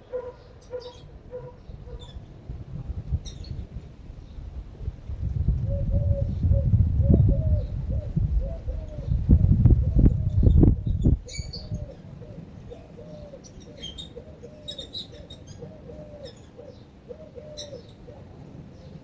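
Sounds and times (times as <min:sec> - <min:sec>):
dove cooing: 0:00.0 - 0:02.2, 0:05.6 - 0:19.0
small birds chirping: 0:00.0 - 0:02.4, 0:03.1 - 0:04.5, 0:07.1 - 0:19.0.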